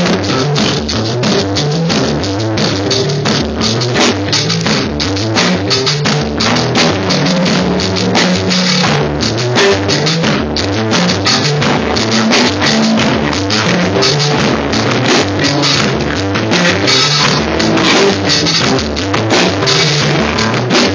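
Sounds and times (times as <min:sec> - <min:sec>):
drum kit and cymbals: 0:00.0 - 0:20.9
electric guitar: 0:00.0 - 0:20.9.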